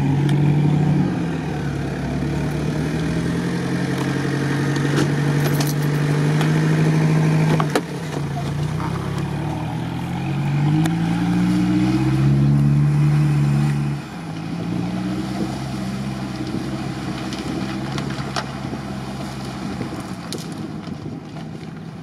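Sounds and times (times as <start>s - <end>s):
engine revving under load: 0.0s - 21.6s.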